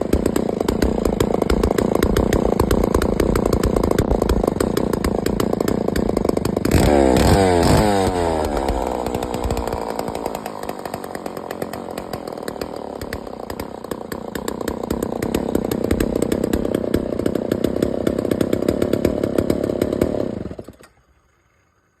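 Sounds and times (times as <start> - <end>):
chainsaw running: 0.0 - 20.9.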